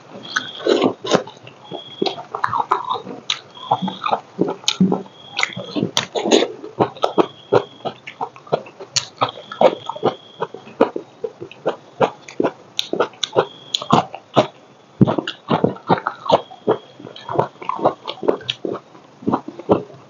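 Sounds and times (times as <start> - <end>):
chewing and lip-smacking: 0.2 - 20.0.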